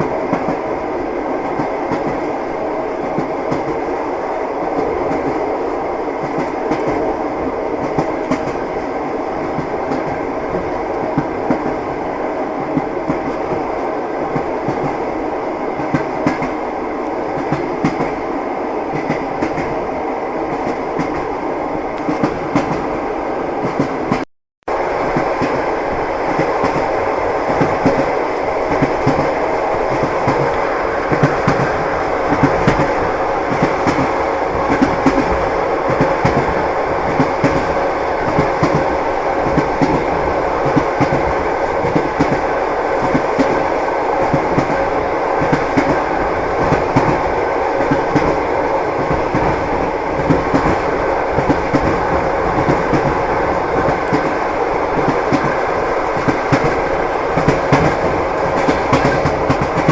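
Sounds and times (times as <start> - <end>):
train wheels clickety-clack: 0.0 - 0.7, 1.4 - 5.6, 6.2 - 7.2, 7.8 - 12.0, 12.6 - 15.2, 15.8 - 18.2, 18.9 - 19.8, 20.5 - 21.3, 21.9 - 23.0, 23.6 - 24.2, 25.0 - 59.9.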